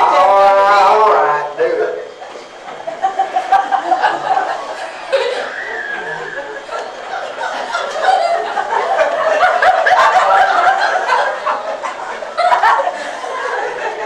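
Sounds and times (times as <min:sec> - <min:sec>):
audience laughing: 0:02.1 - 0:14.0.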